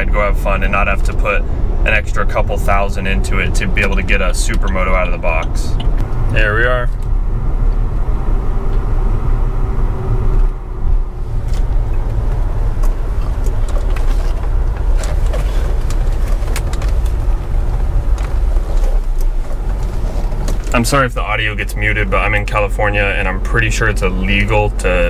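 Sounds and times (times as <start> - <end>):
engine and road rumble in car: 0.0 - 25.0.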